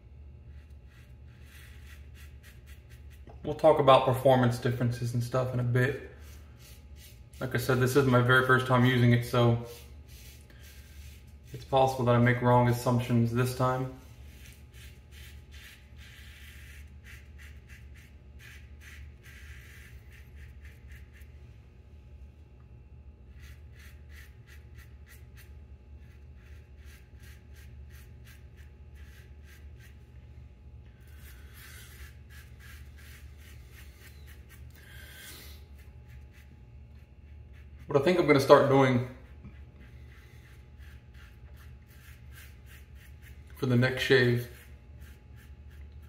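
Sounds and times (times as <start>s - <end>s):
steady low hum: 0.0s - 46.0s
razor scraping stubble: 0.4s - 21.3s, 23.3s - 30.2s, 31.0s - 46.0s.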